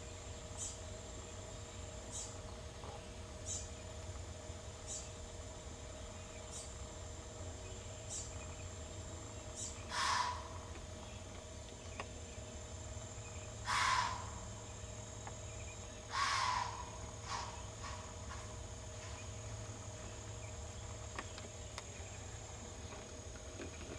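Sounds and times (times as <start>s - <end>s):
insects trilling: 0.0s - 23.9s.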